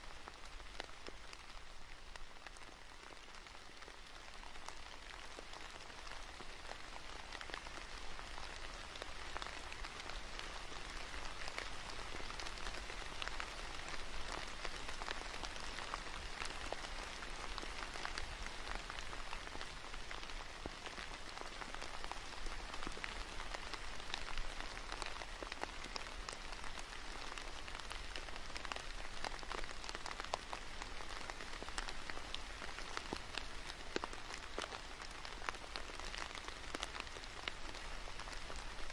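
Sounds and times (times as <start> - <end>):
rain falling on leafy trees: 0.0 - 38.9.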